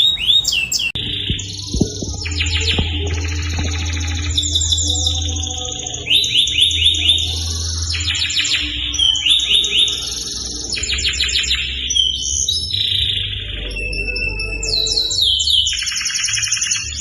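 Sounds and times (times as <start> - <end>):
canary singing trills: 0.0 - 17.0
low steady hum: 0.1 - 16.0.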